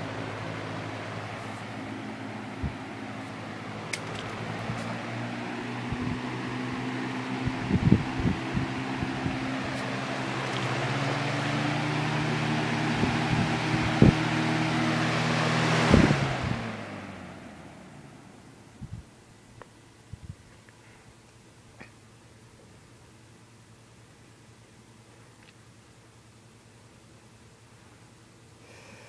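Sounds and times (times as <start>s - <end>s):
fan air rushing: 0.0s - 29.0s
fan motor hum: 0.0s - 29.0s.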